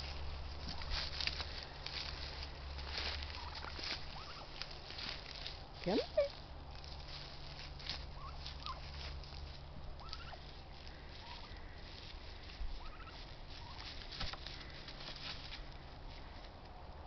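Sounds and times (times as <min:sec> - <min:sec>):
turkeys calling: 0:00.0 - 0:16.6
rustling of dry leaves: 0:00.0 - 0:17.0.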